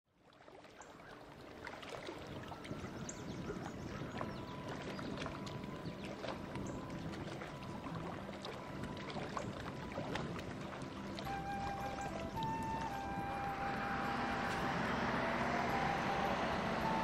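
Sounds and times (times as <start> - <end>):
small waves lapping on shore: 0.1 - 17.0.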